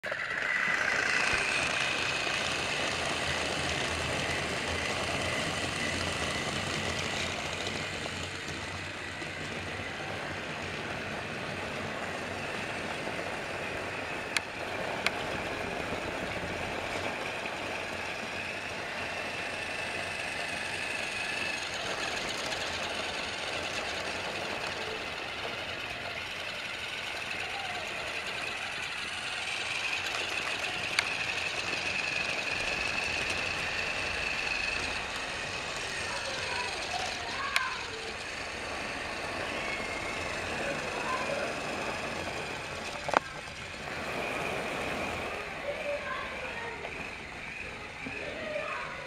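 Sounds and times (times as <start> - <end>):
toy train motor whirring: 0.0 - 49.0.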